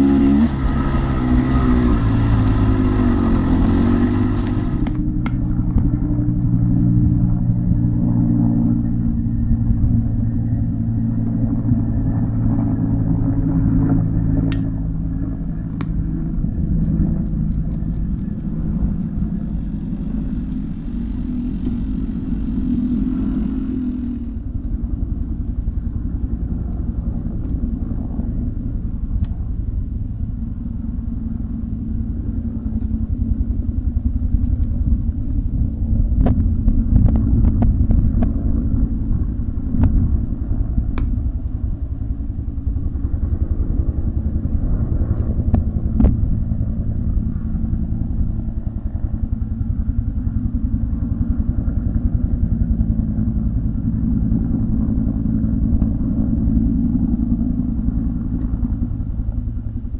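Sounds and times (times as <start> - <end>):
dirt bike engine idling: 0.0 - 59.9.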